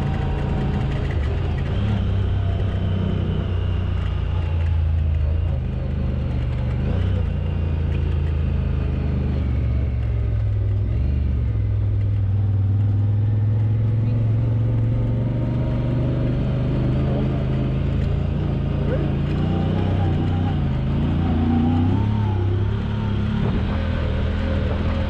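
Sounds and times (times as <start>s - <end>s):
off-road vehicle engine: 0.0s - 25.0s.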